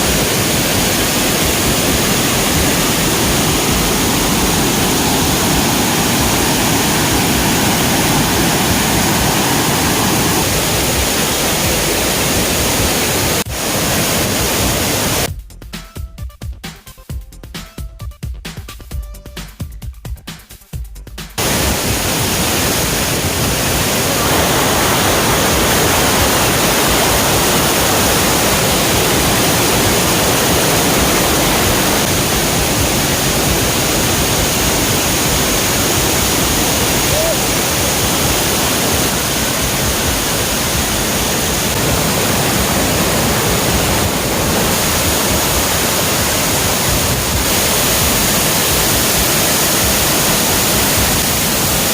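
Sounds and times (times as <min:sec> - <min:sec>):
waterfall rushing: 0:00.0 - 0:15.3, 0:21.4 - 0:51.9.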